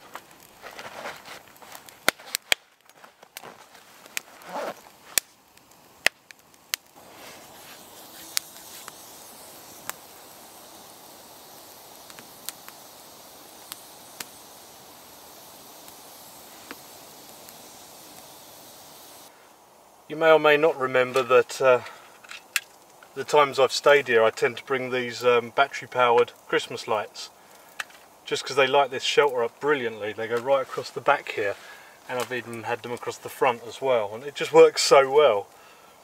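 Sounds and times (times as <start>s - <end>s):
campfire crackling and popping: 0.0s - 36.0s
steady hiss: 0.0s - 36.0s.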